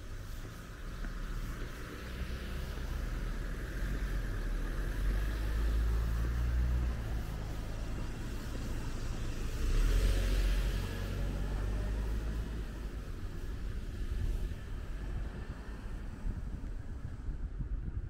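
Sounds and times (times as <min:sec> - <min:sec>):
car passing by: 0:00.0 - 0:17.7
road traffic rumble: 0:00.0 - 0:18.0.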